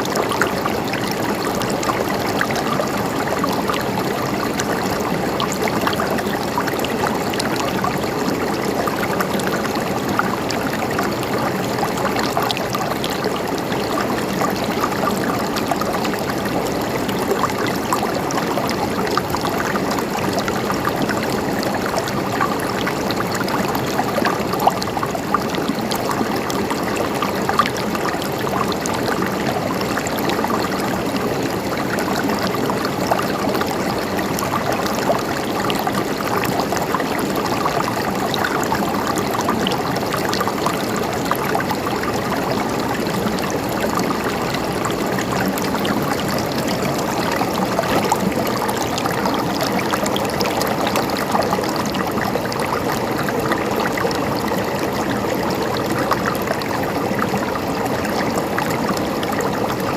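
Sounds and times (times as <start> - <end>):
river flowing over rocks: 0.0 - 59.9
small water splashes: 0.0 - 59.9.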